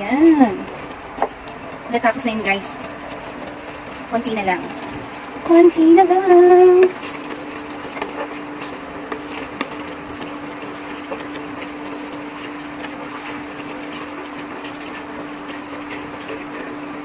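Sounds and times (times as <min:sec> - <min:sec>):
steady hum: 0:00.0 - 0:17.0
wooden spatula stirring food in a wok: 0:00.0 - 0:17.0.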